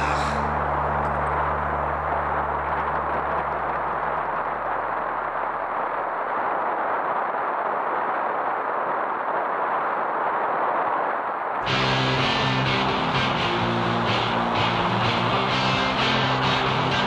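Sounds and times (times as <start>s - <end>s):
wind rushing over microphone: 0.0s - 15.1s.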